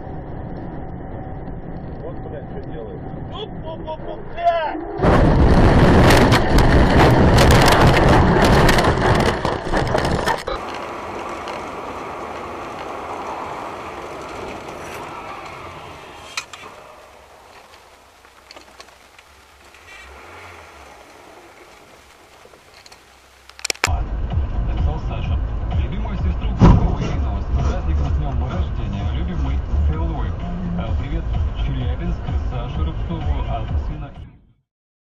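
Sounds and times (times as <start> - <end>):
rough rumbling and crackling: 0.0 - 34.3
road noise inside a car: 6.0 - 34.4.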